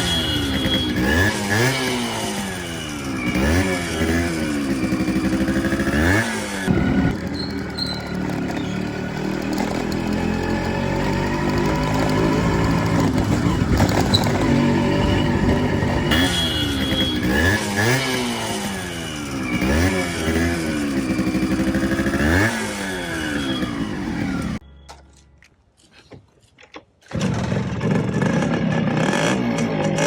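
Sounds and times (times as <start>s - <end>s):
motorcycle engine revving: 0.0s - 24.6s, 27.1s - 30.0s.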